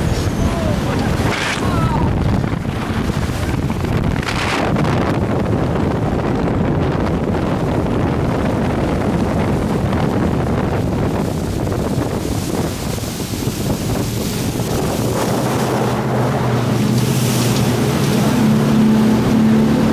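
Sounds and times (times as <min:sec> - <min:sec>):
churning wake: 0:00.0 - 0:19.9
fast boat engine: 0:00.0 - 0:19.9
wind buffeting microphone: 0:00.0 - 0:19.9.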